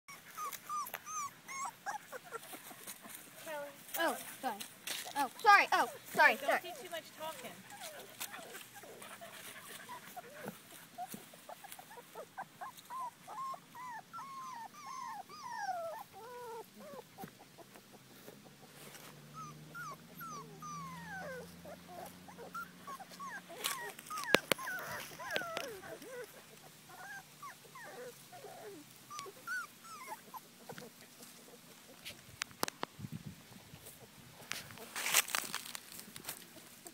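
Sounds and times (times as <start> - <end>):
puppies whimpering and whining: 0.1 - 3.0, 5.2 - 32.0.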